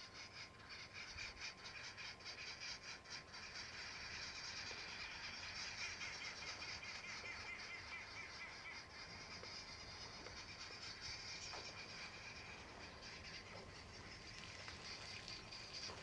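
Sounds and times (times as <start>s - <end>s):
chorus of insects and birds: 0.0s - 16.0s.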